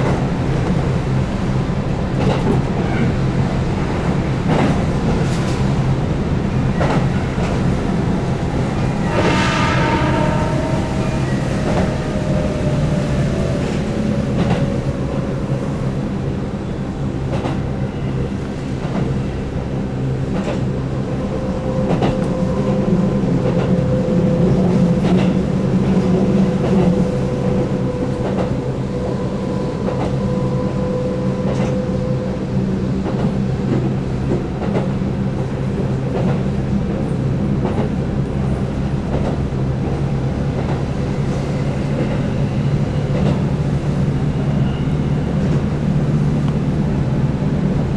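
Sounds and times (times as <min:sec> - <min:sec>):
electric train rumbling: 0:00.0 - 0:47.9.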